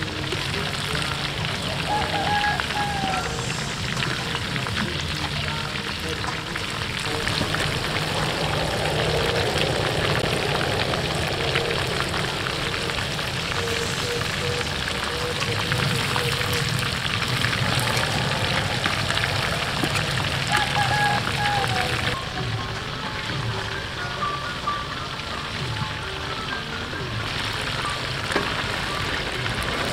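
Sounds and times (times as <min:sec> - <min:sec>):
chicken deep-frying in oil: 0:00.0 - 0:29.9.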